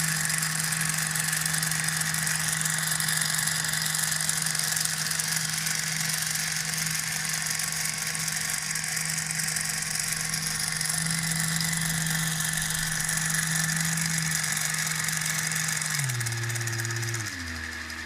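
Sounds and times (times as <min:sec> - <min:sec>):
toy train motor whirring: 0:00.0 - 0:18.0.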